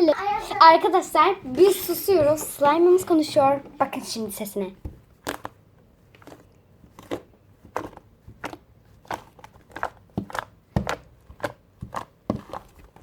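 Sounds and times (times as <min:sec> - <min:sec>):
slime squelching: 0:00.2 - 0:13.0.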